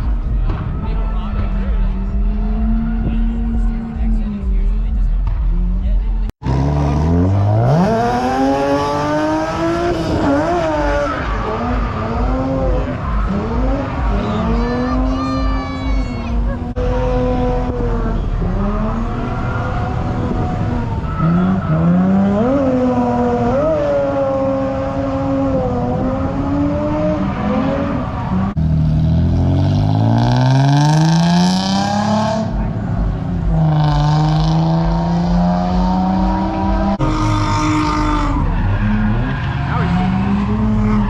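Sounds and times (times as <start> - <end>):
tires squealing: 0.0 - 4.6, 5.5 - 41.0
car engine revving: 0.0 - 41.0.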